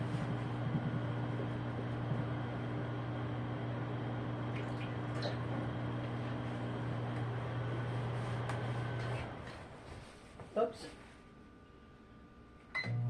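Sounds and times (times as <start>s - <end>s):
microwave oven humming: 0.0s - 9.9s, 11.3s - 13.0s.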